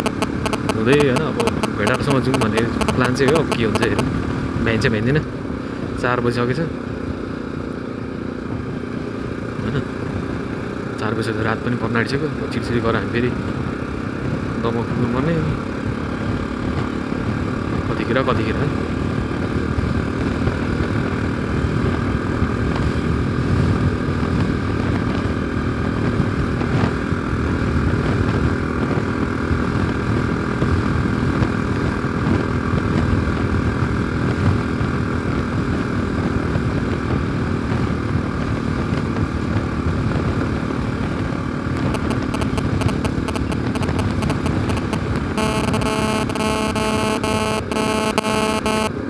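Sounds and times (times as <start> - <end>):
motorcycle engine running: 0.0 - 6.0, 6.6 - 49.0.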